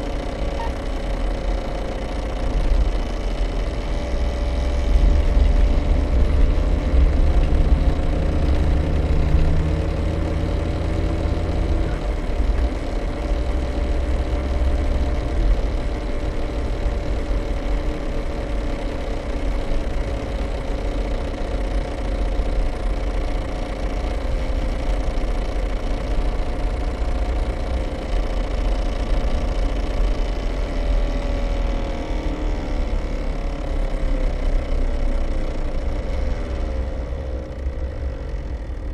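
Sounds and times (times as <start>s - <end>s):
road and drivetrain rumble: 0.0s - 38.9s
steady whining tone: 0.0s - 38.9s.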